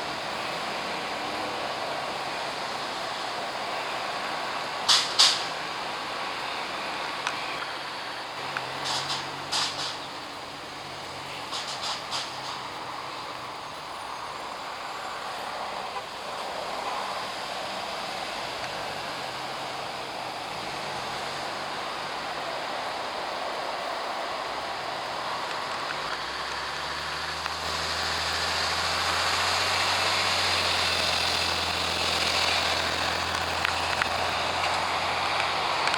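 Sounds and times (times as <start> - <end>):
fire engine droning: 0.0 - 35.9
road noise: 0.0 - 35.9.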